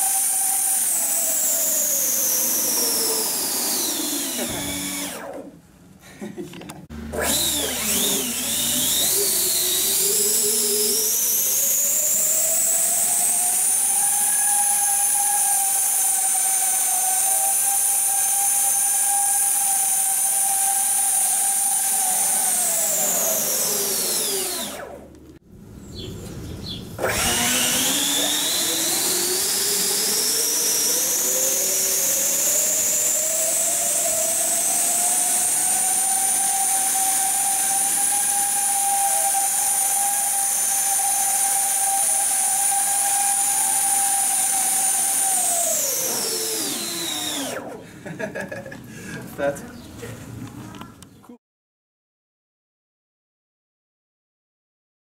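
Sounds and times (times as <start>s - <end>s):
electric fans whining: 0.0s - 19.6s, 21.1s - 50.9s.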